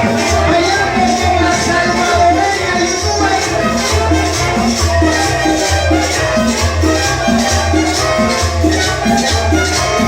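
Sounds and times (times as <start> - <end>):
latin dance music: 0.0 - 10.0.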